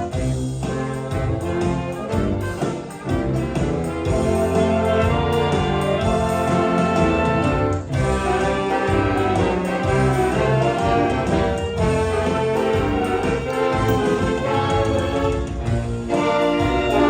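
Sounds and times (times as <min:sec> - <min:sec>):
orchestra playing held chords: 0:00.0 - 0:17.0.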